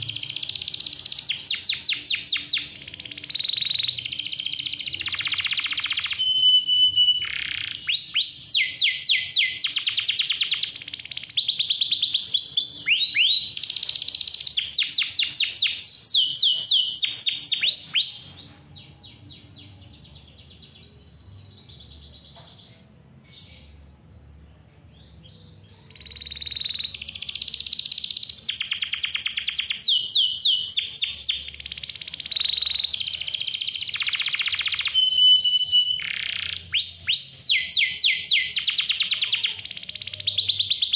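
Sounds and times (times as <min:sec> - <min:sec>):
canary singing trills: 0:00.0 - 0:24.0, 0:24.8 - 0:40.9.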